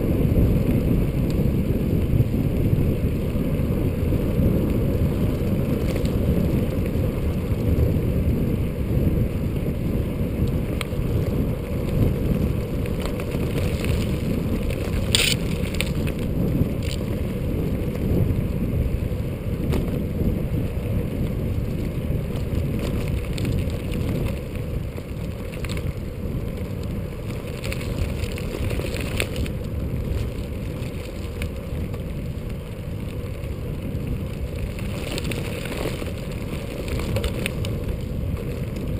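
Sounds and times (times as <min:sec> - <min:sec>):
bicycle tyre hum: 0:00.0 - 0:38.9
wind buffeting microphone: 0:00.0 - 0:38.9.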